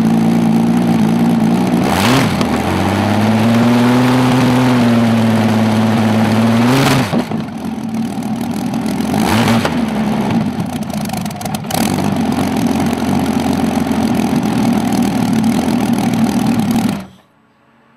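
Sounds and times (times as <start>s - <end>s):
tank engine running: 0.0s - 17.3s.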